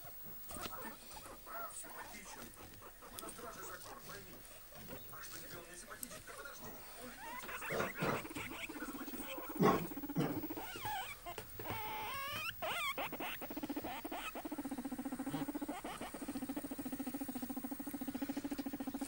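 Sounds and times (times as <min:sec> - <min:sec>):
guinea pig purring: 0:00.0 - 0:19.0.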